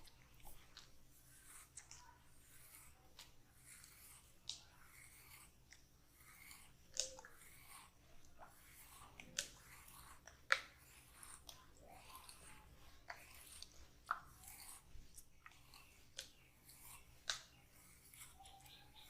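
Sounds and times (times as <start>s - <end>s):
fingers squishing through oiled hair: 0.0s - 19.0s.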